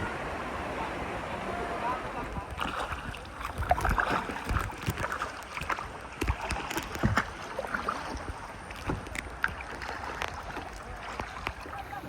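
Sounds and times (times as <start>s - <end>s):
kayak paddle splashing in water: 1.8s - 12.0s.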